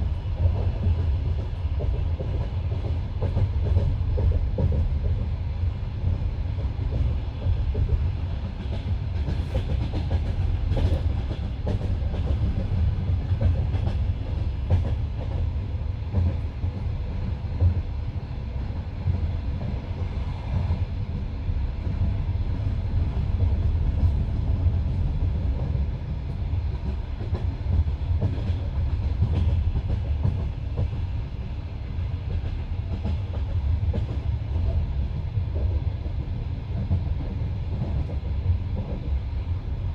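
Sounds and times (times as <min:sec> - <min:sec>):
low train rumble: 0:00.0 - 0:39.9.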